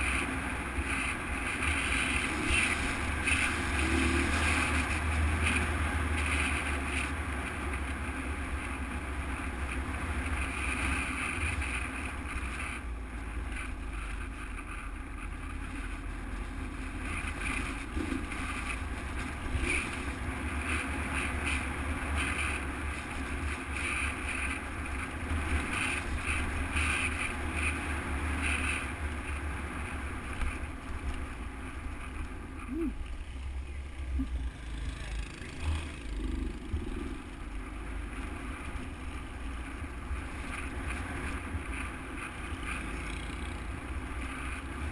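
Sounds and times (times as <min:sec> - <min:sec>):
motorcycle engine rumbling: 0:00.0 - 0:44.9.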